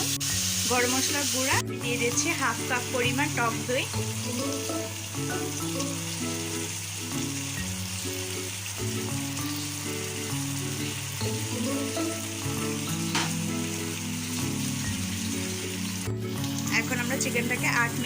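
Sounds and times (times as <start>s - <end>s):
background music: 0.0s - 18.0s
chicken sizzling in hot oil: 0.0s - 18.0s.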